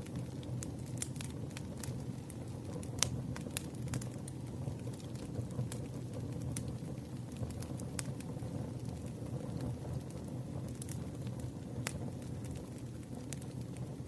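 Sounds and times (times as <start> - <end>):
burning wood pops and snaps: 0.0 - 14.0
campfire crackling: 0.0 - 14.0.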